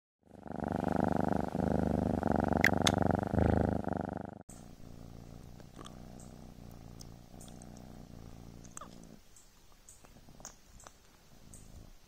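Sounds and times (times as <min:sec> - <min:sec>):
kitten purring: 0:00.2 - 0:12.0.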